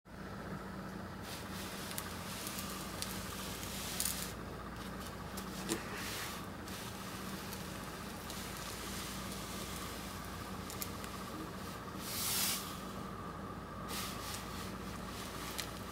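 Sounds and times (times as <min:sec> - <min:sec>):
steady background hum: 0:00.1 - 0:15.9
scraping rustles on cloth: 0:01.2 - 0:13.0, 0:13.8 - 0:15.9.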